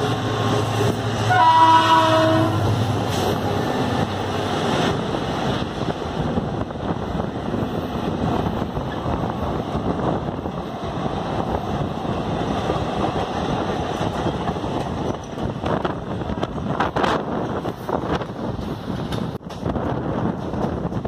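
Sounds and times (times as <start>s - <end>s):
train wheels rumbling on rails: 0.0s - 21.0s
wind buffeting microphone: 2.2s - 21.0s.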